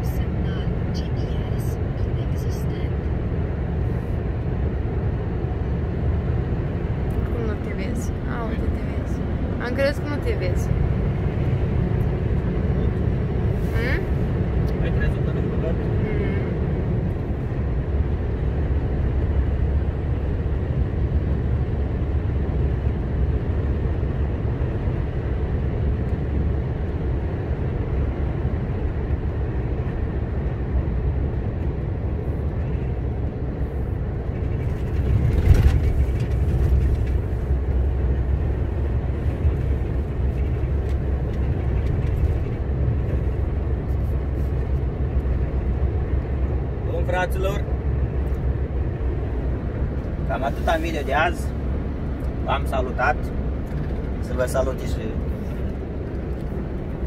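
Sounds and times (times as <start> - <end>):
lorry engine and road drone: 0.0 - 57.0.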